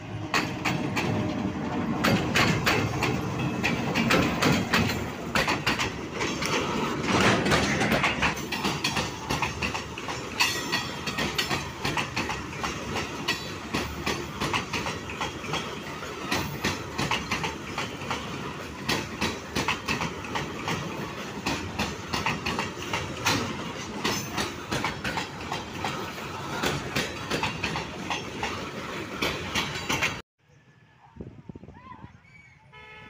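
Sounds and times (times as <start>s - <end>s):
wheels clacking over rail joints: 0.0s - 30.2s
train rumbling past: 0.0s - 30.9s.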